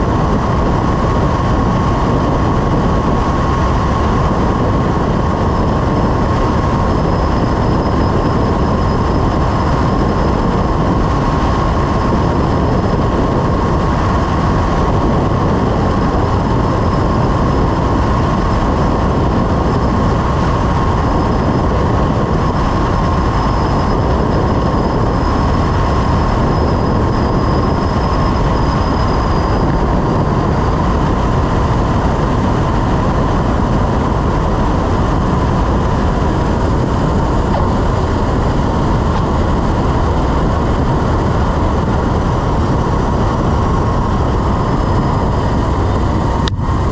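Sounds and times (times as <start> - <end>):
aircraft engine and propeller: 0.0 - 46.9
steady whine: 0.0 - 46.9
wind rush: 0.0 - 46.9.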